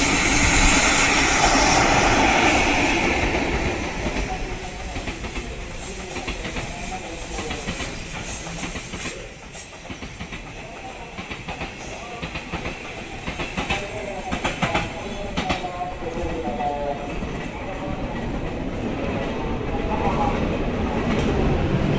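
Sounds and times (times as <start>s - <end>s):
freight train rolling past: 0.0s - 21.9s.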